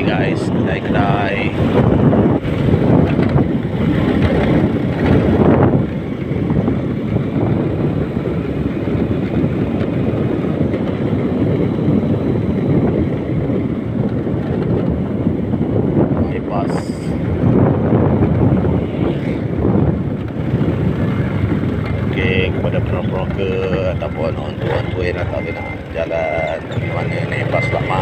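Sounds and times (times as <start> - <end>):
low road noise: 0.0 - 28.0
wind buffeting microphone: 0.0 - 28.0.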